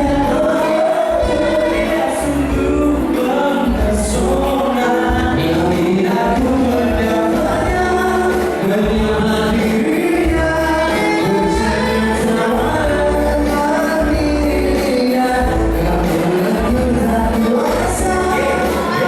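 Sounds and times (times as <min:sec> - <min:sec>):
instrumental accompaniment: 0:00.0 - 0:19.0
person singing: 0:00.0 - 0:19.0
steady bass line: 0:00.0 - 0:19.0.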